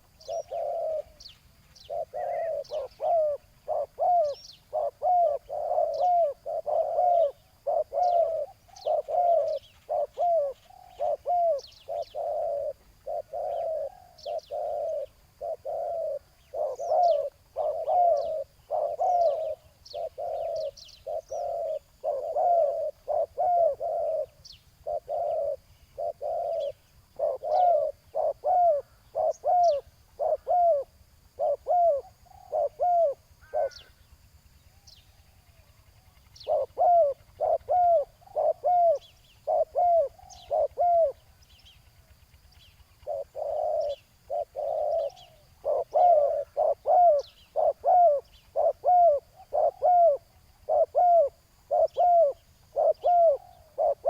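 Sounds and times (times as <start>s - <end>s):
doves cooing: 0.0s - 54.0s
small birds chirping: 0.0s - 54.0s.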